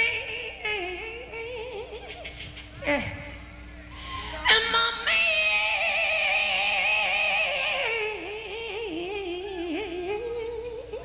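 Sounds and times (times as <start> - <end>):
woman singing long wavering note: 0.0 - 3.4, 4.1 - 11.0.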